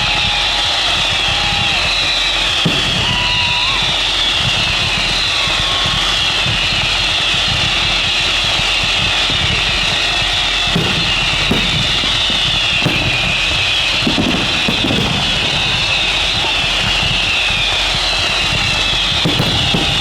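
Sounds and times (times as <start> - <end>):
distant fireworks thuds and pops: 0.1 - 20.0.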